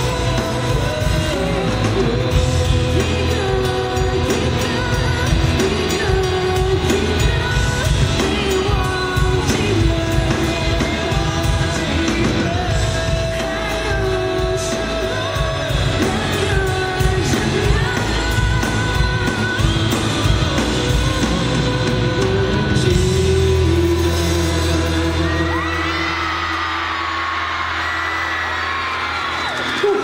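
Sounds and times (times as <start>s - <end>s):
man singing into a microphone: 0.0s - 28.8s
live band music: 0.0s - 30.0s.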